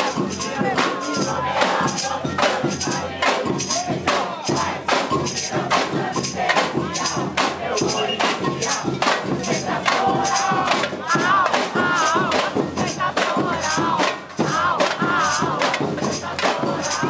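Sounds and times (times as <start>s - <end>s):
crowd singing and shouting: 0.0s - 17.0s
samba percussion band: 0.0s - 17.0s.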